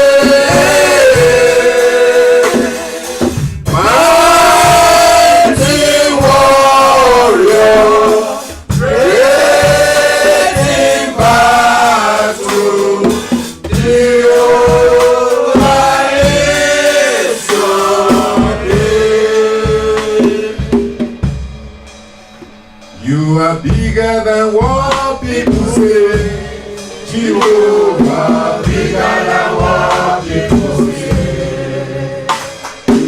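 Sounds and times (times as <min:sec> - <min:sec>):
man singing lead: 0:00.0 - 0:21.0, 0:23.0 - 0:32.6
choir singing: 0:00.0 - 0:21.1, 0:24.6 - 0:33.0
band with steady drum beat: 0:00.0 - 0:33.0.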